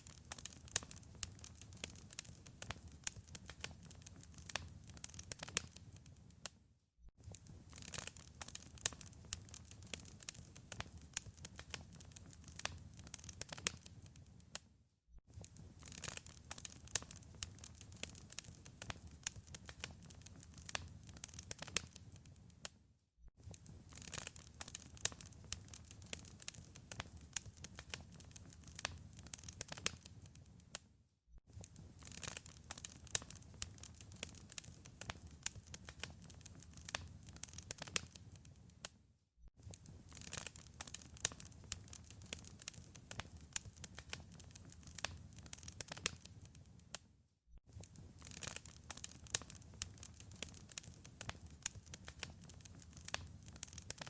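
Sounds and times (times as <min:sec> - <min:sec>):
wood fire crackling: 0:00.0 - 0:06.5, 0:07.2 - 0:14.6, 0:15.3 - 0:22.7, 0:23.4 - 0:30.8, 0:31.5 - 0:38.9, 0:39.6 - 0:46.9, 0:47.7 - 0:54.0.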